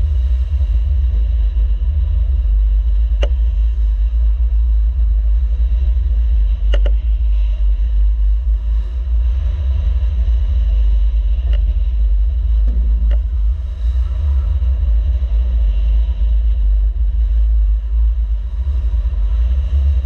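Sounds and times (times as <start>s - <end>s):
wind rumble: 0.0s - 20.0s.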